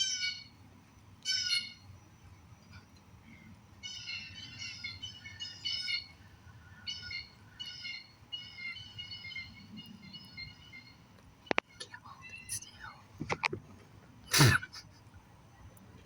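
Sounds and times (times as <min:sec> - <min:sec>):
birds chattering: 0:00.0 - 0:00.6, 0:01.2 - 0:13.5.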